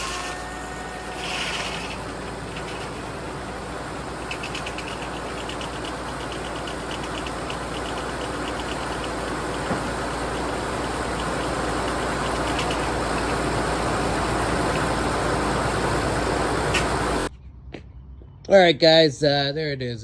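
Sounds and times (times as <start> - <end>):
circular saw cutting log: 0.0 - 17.3
diesel engine running under load: 0.0 - 17.3.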